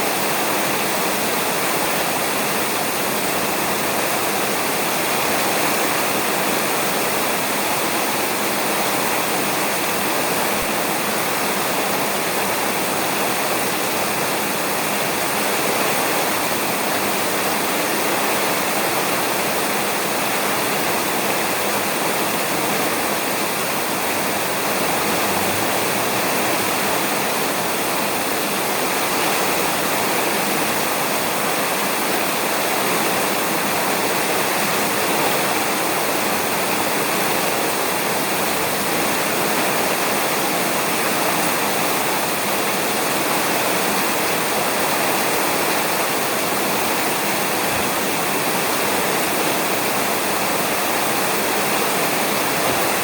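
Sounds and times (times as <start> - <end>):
rain falling on a roof: 0.0 - 53.0.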